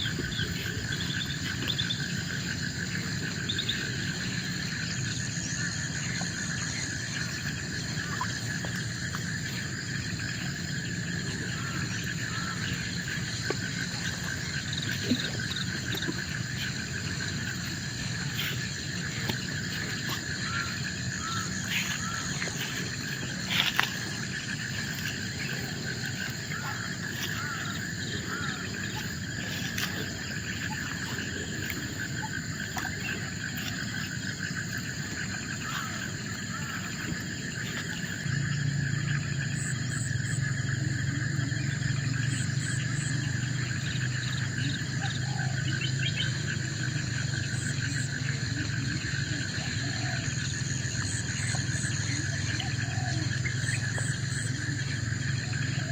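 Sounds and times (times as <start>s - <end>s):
insect fast pulsing chirp: 0.0s - 55.9s
insects trilling: 0.0s - 55.9s.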